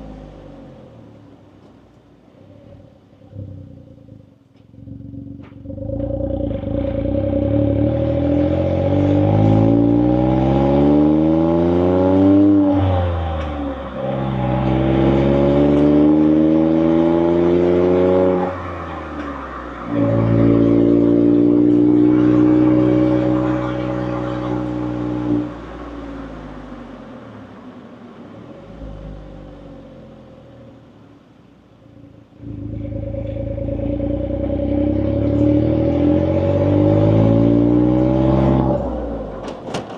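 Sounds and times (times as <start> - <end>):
car engine revving: 2.3 - 39.9.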